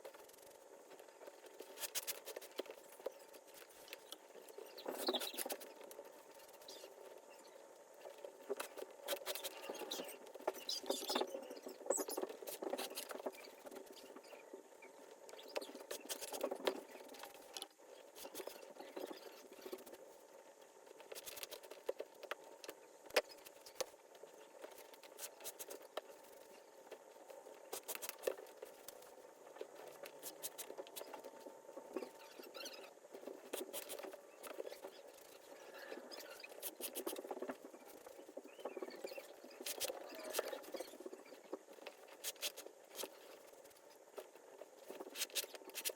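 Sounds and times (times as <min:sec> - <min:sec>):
small clicks and squeaks: 0:00.0 - 0:45.9.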